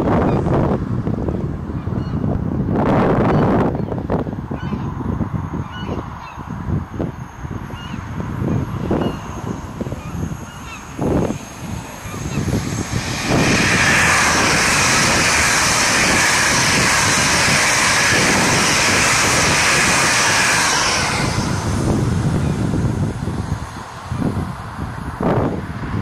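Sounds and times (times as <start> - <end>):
train passing at high speed: 2.4 - 26.0.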